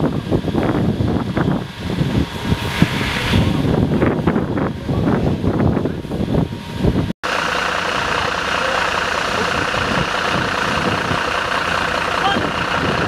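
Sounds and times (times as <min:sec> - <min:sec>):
wind buffeting the microphone: 0:00.0 - 0:07.1, 0:09.2 - 0:13.0
constant higher hum: 0:00.0 - 0:13.0
truck engine running: 0:00.0 - 0:13.0.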